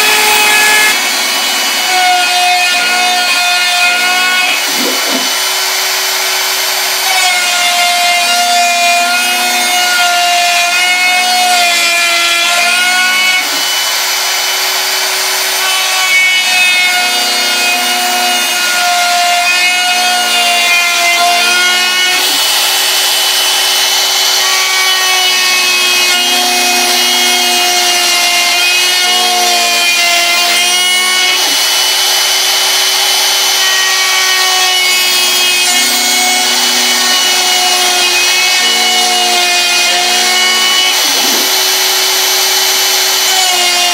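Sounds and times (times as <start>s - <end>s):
router milling wood: 0.0s - 43.9s.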